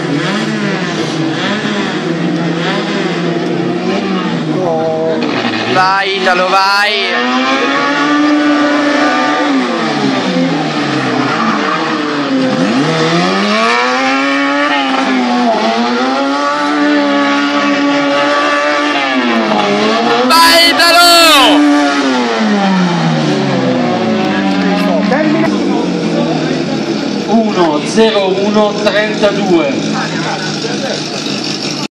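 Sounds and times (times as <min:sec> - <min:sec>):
car engine revving hard: 0:00.0 - 0:31.9.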